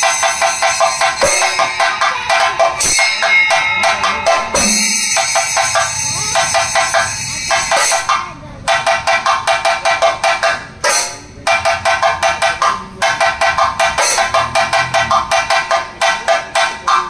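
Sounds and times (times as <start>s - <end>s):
cymbals: 0.0s - 17.0s
drums playing fast strokes: 0.0s - 17.0s.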